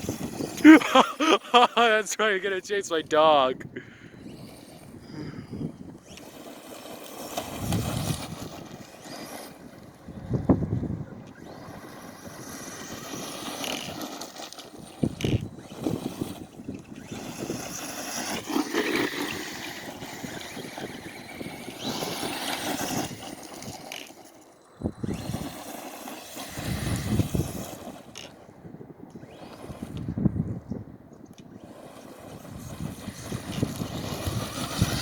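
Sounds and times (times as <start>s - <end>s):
toy truck motor on dirt: 0.0s - 35.0s.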